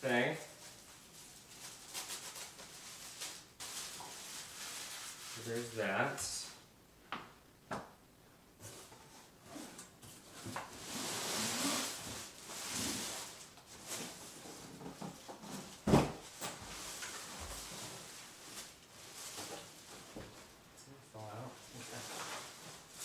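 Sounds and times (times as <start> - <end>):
cardboard and plastic rustling: 0.5 - 5.8, 8.6 - 20.6, 21.4 - 23.0.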